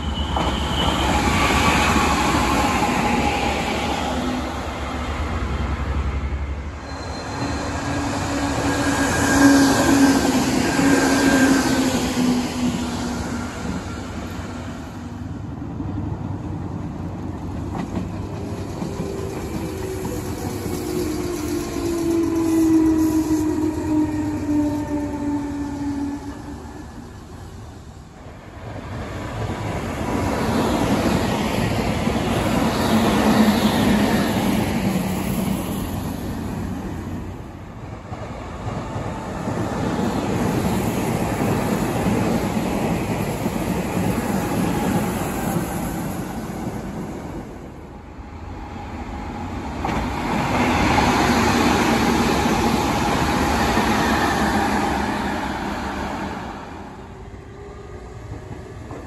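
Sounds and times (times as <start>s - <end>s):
train rail rumble and wheel noise: 0.0s - 59.0s.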